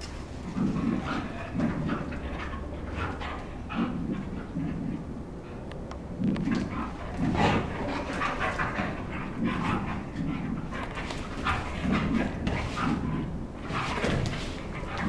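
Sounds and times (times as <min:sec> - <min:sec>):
dog panting and sniffing: 0:00.2 - 0:05.7, 0:06.4 - 0:15.0.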